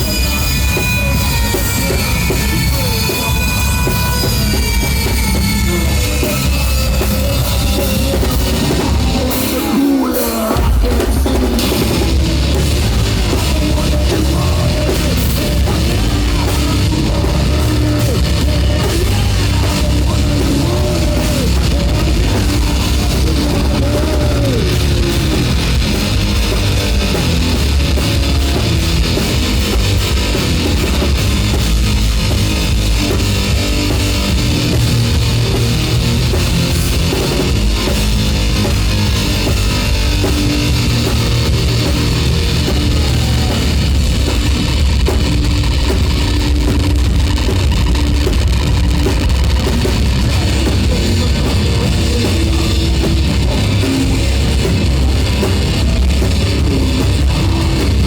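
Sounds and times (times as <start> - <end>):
heavy rock band playing: 0.0 - 58.0.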